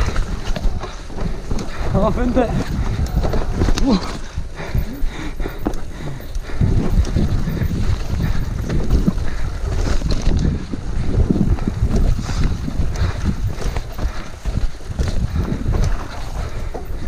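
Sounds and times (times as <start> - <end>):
bike knocking and rattling: 0.0 - 17.0
tyres rumbling over dirt: 0.0 - 17.0
wind rushing over microphone: 0.0 - 17.0.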